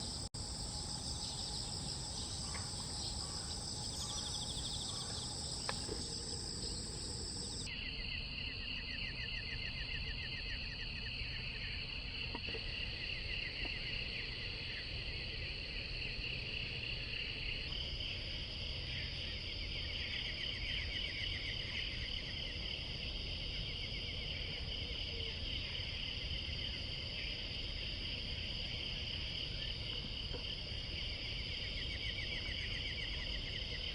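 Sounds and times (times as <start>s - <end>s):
insects chirping and buzzing: 0.0s - 33.9s.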